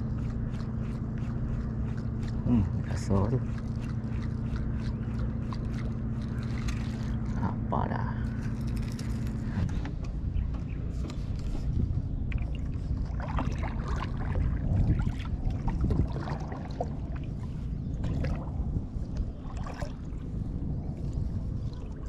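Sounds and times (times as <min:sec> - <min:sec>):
low rumble: 0:00.0 - 0:22.0
water sloshing and splashing: 0:00.0 - 0:22.0.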